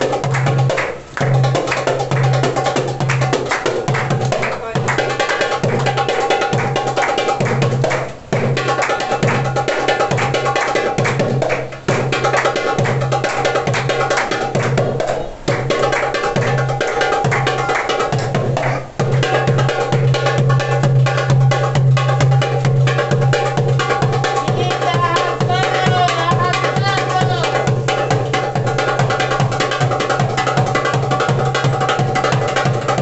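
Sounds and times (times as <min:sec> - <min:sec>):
darbuka fast solo: 0:00.0 - 0:33.0.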